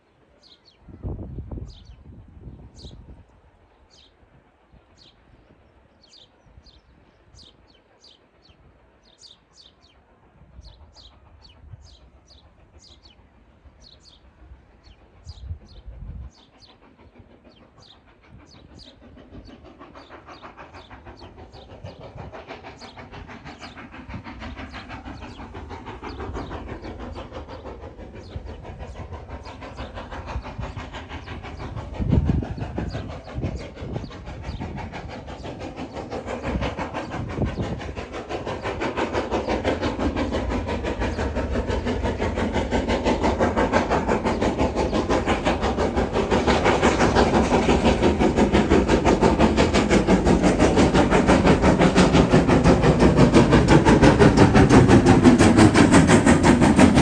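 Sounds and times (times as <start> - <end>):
steam train working hard: 0.0 - 57.0
birds chirping: 4.8 - 52.7.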